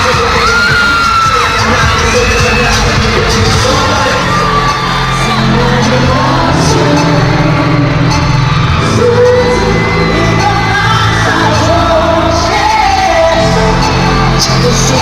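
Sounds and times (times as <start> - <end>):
crowd shouting and screaming: 0.0 - 15.0
live pop song over sound system: 0.0 - 15.0
man singing: 0.0 - 15.0.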